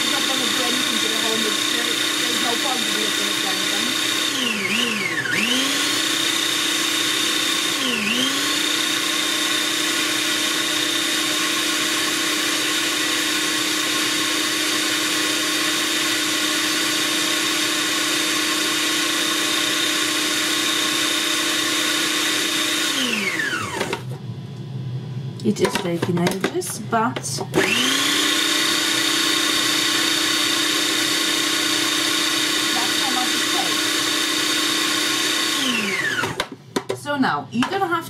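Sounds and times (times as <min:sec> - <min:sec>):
electric blender running: 0:00.0 - 0:24.8, 0:25.4 - 0:36.6.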